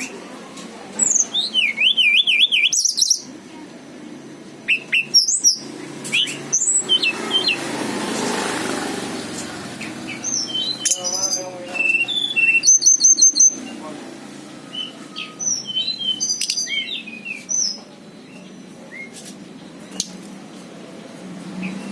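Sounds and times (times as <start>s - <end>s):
songbird singing: 0.0s - 3.4s, 4.5s - 21.9s.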